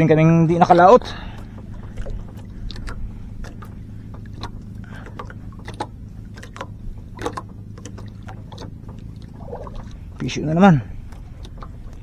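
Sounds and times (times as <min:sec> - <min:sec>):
boat engine humming: 0:00.0 - 0:12.0
light clicks and knocks: 0:01.3 - 0:12.0.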